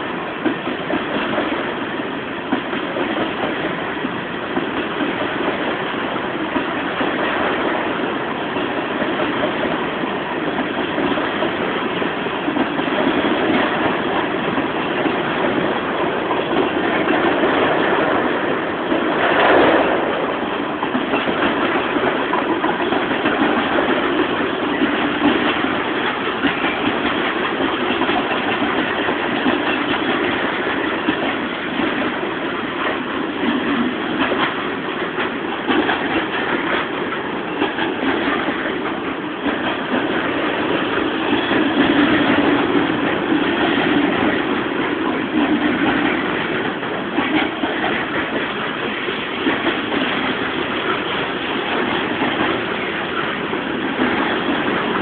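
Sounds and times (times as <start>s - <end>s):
freight train rolling past: 0.0s - 55.0s
steel wheels clattering on rails: 0.0s - 55.0s.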